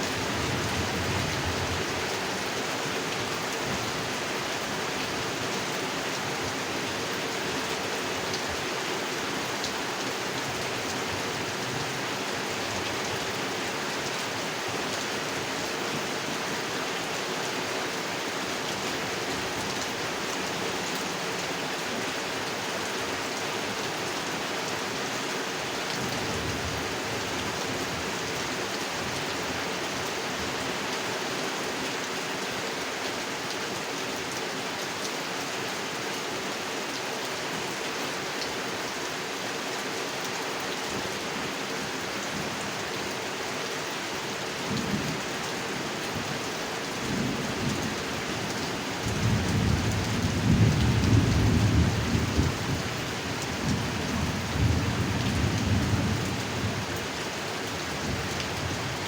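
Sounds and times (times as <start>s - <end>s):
heavy rain on a pond: 0.0s - 59.0s.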